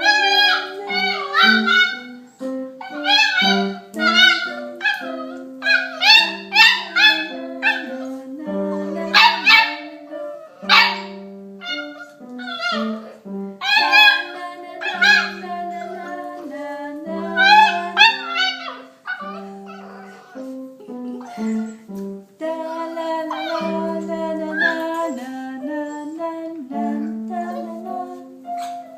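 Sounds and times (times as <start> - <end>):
puppy howling: 0.0 - 21.9, 22.5 - 25.2
piano playing: 0.0 - 28.9.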